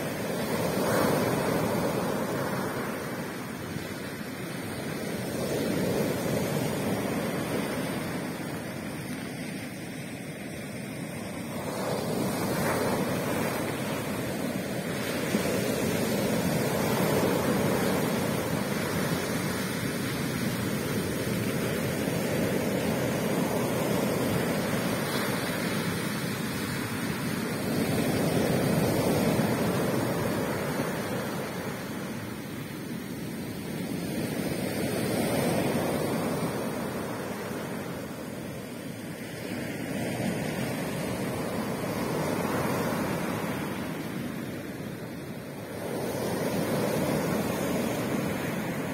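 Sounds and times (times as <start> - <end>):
waves breaking on beach: 0.0 - 48.9.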